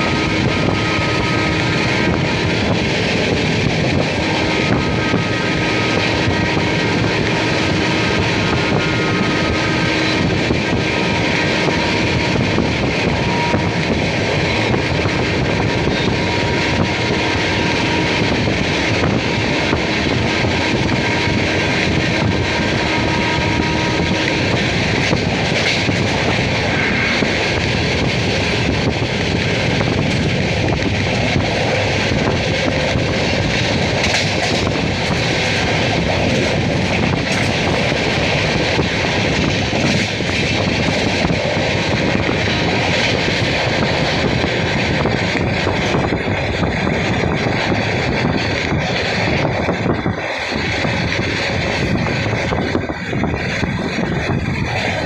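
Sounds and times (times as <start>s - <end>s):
train wheels rumbling on rails: 0.0s - 55.0s
wind buffeting microphone: 0.0s - 55.0s
sharp rail clacks: 0.3s - 55.0s.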